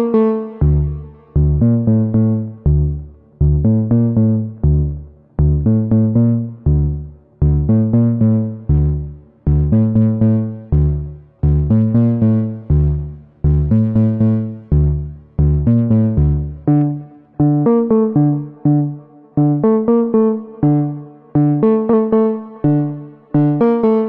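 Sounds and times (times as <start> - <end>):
synthesizer repeating notes: 0.0 - 24.0.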